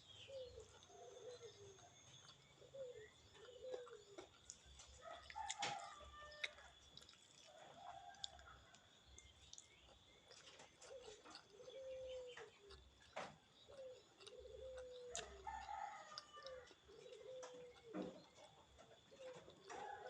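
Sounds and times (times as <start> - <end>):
bird calling: 0.0 - 6.5, 9.6 - 20.0
faint scattered clicks: 0.7 - 20.0.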